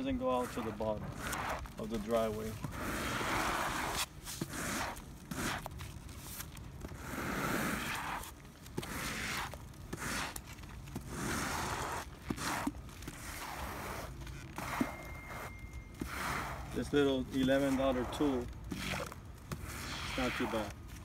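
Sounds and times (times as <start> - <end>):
squeegee scraping swish: 0.0 - 21.0.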